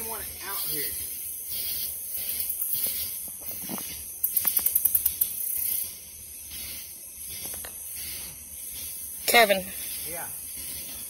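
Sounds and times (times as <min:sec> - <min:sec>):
fast pulsed insect call: 0:00.0 - 0:11.0
night insects chorus: 0:00.0 - 0:11.0.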